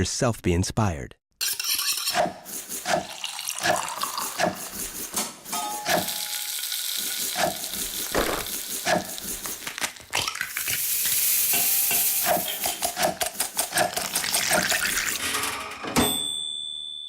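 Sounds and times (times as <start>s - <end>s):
utensils clattering: 1.4s - 16.2s.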